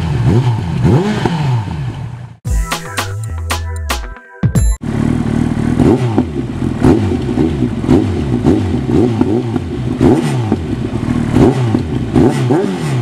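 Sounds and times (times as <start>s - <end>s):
motorcycle engine revving: 0.0s - 2.4s, 4.8s - 13.0s.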